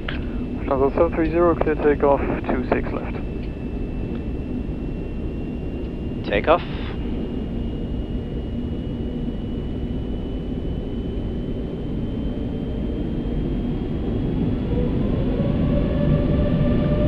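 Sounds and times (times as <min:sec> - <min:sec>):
jet engines spooling up: 0:00.0 - 0:17.0
thin rising engine whine: 0:00.0 - 0:17.0.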